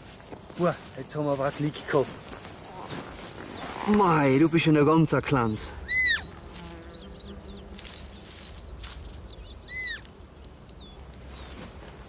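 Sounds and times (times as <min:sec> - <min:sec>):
bird and insect chirps: 0:00.0 - 0:12.0.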